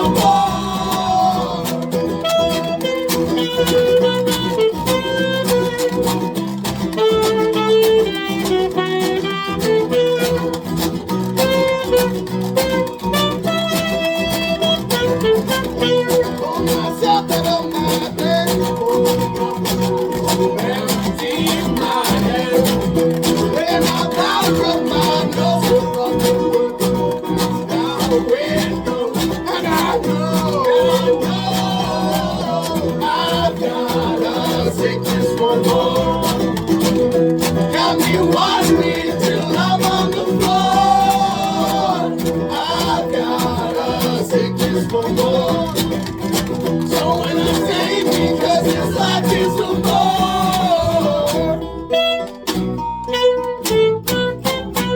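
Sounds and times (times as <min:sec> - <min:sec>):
guitar: 0:00.0 - 0:54.9
live folk band playing: 0:00.0 - 0:54.9.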